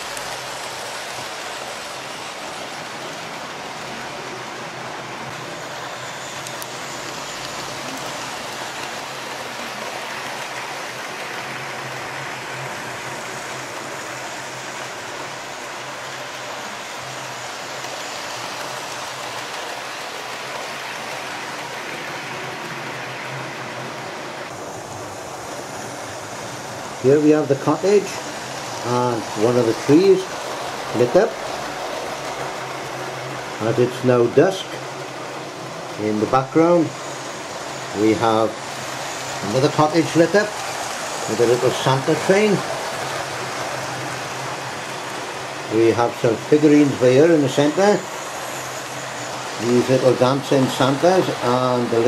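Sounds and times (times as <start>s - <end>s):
model trains whirring on track: 0.0s - 52.0s.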